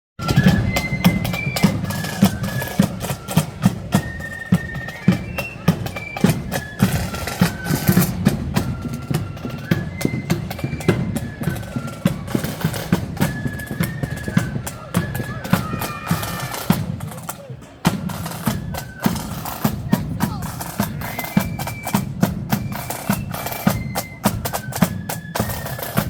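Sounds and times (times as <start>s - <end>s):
flutes playing a tune: 0.2s - 26.0s
snare and bass drum beats: 0.2s - 26.0s.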